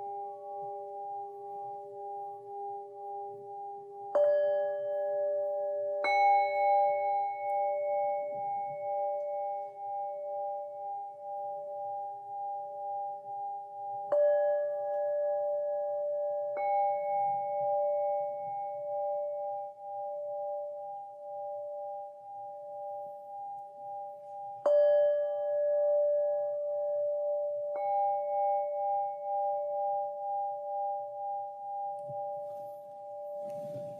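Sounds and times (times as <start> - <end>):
singing bowls ringing: 0.0 - 33.9.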